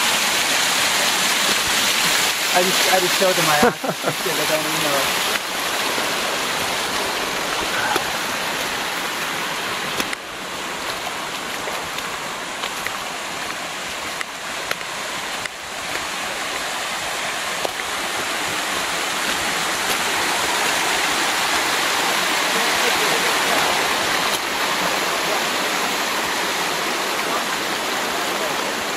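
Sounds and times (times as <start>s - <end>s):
creek water cascading over rocks: 0.0s - 28.9s.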